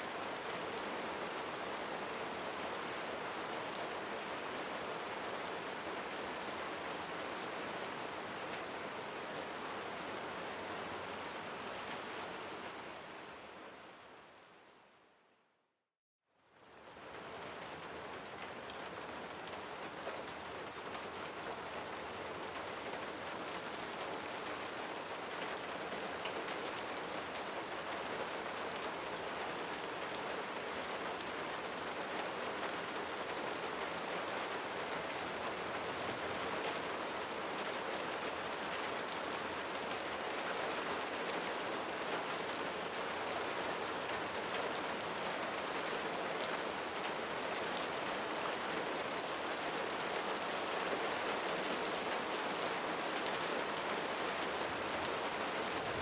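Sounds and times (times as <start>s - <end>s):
rain falling on leaves: 0.0s - 15.2s, 16.4s - 56.0s.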